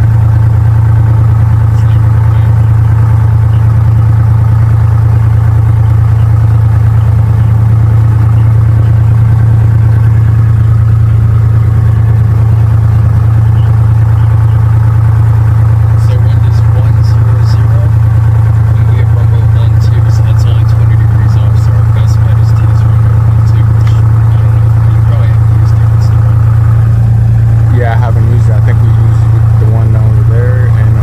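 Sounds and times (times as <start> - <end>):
propeller aircraft engine droning: 0.0 - 31.0.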